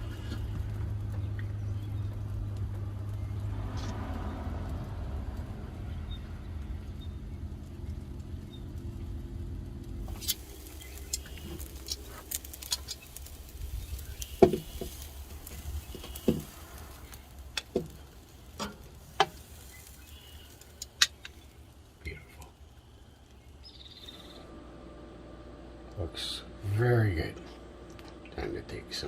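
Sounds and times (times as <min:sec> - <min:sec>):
low rumble: 0:00.0 - 0:28.8.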